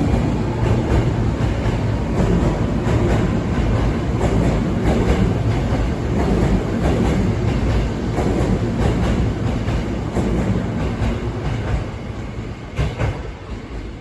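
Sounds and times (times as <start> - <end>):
electric train wheels rumbling: 0.0 - 14.0.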